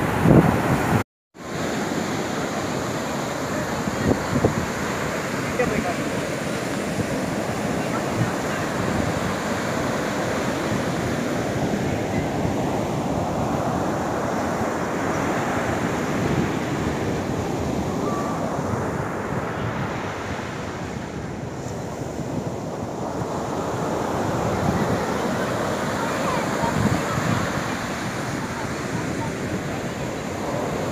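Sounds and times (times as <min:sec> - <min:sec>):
surf breaking on beach: 0:00.0 - 0:30.9
wind blowing on microphone: 0:00.0 - 0:30.9.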